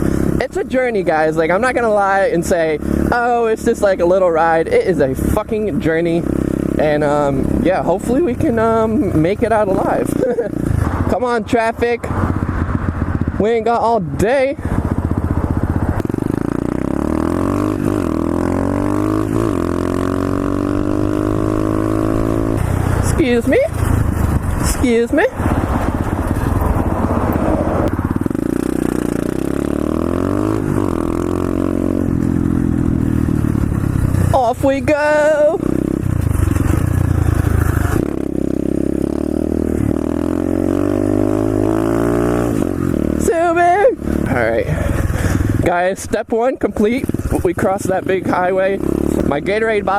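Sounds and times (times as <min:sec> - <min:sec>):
motorbike engine running: 0:00.0 - 0:49.9.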